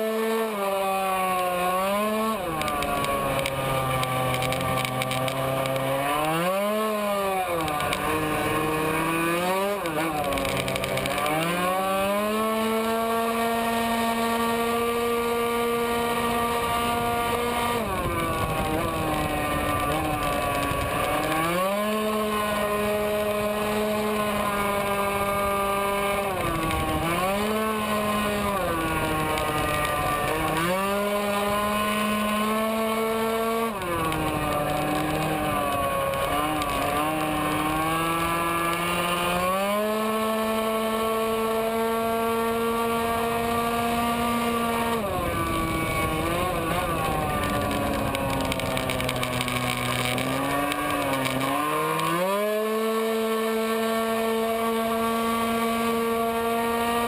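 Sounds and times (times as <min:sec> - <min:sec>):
scooter engine at high revs: 0:00.0 - 0:57.0.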